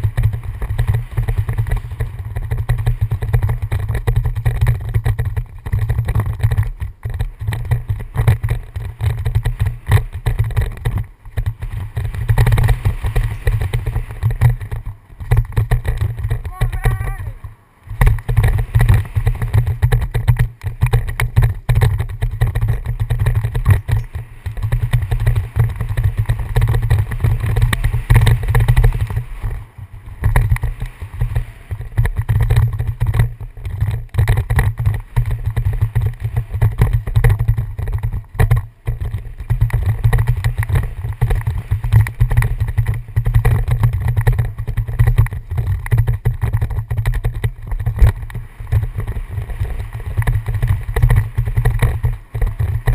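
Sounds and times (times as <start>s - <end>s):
bike rattling on dirt trail: 0.0s - 52.9s
wind buffeting microphone: 0.0s - 52.9s.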